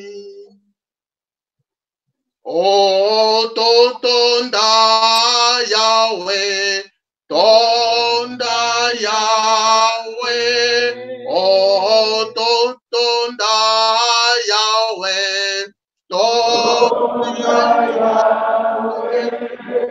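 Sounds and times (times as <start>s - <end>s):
man singing unaccompanied chant: 0.0s - 0.6s, 2.5s - 19.9s.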